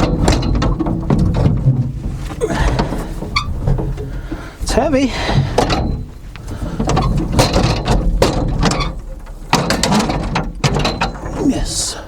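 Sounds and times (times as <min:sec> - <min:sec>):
metal clanks and scrapes: 0:00.0 - 0:11.6.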